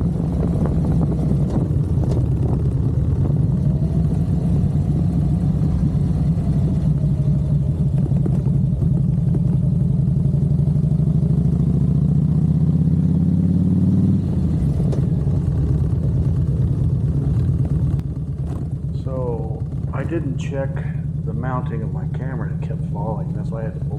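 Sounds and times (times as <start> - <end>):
motorcycle engine accelerating: 0.0 - 23.9.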